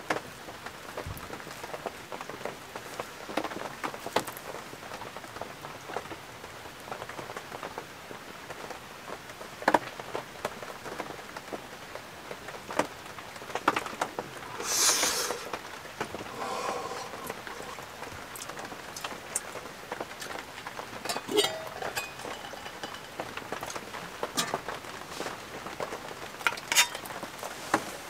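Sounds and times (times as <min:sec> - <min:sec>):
rain falling on a tent: 0:00.0 - 0:28.0
rustle: 0:00.0 - 0:28.0.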